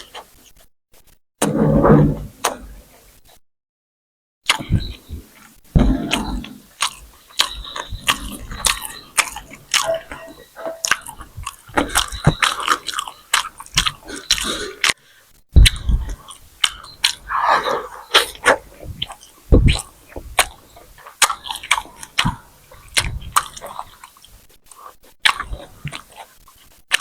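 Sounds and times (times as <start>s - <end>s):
person chewing food: 4.5s - 27.0s.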